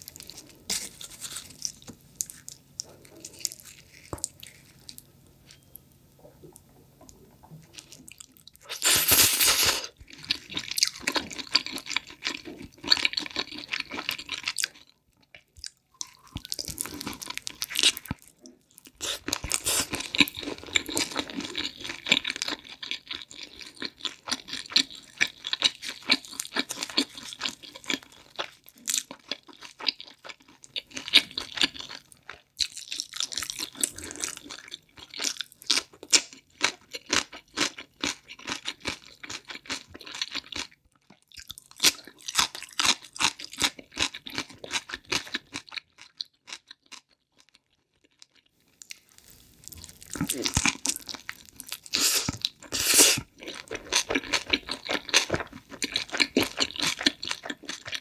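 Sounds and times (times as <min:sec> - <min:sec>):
wet crunchy chewing: 0:00.0 - 0:05.6, 0:07.7 - 0:47.6, 0:48.8 - 0:58.0.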